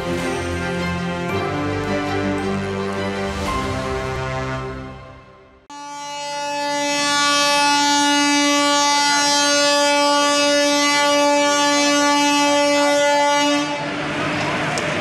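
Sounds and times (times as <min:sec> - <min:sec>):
train horn long note: 0:01.4 - 0:14.0.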